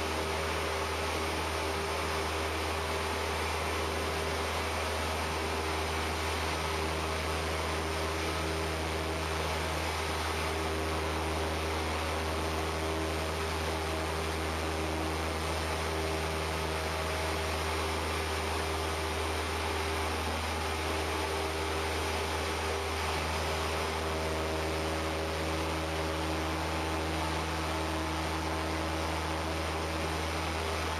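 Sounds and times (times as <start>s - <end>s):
light aircraft engine drone: 0.0s - 30.9s.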